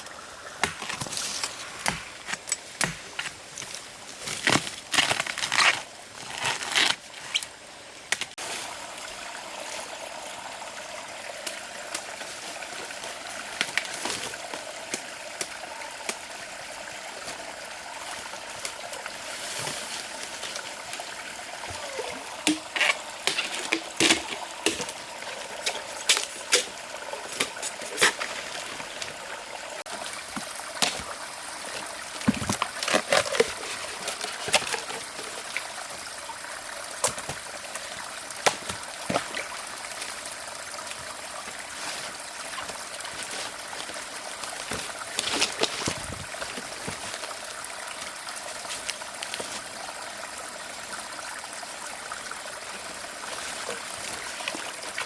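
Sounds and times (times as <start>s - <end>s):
water trickling: 8.4s - 55.0s.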